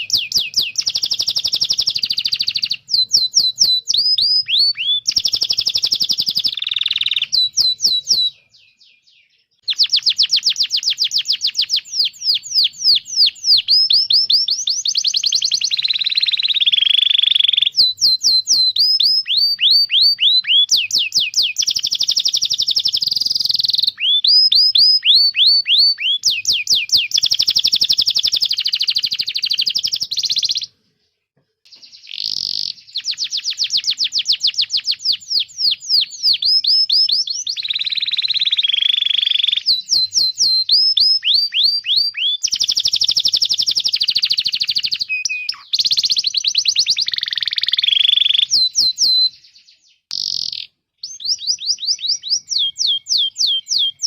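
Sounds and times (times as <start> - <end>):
canary singing trills: 0.0 - 30.9, 31.7 - 54.0.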